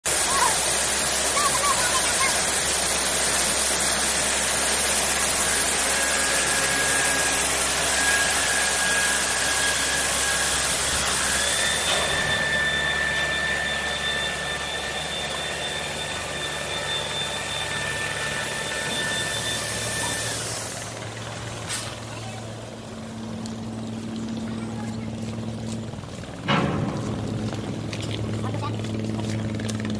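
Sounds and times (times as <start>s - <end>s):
high whine: 0.1s - 29.9s
ship rolling down slipway rumble: 0.1s - 29.9s.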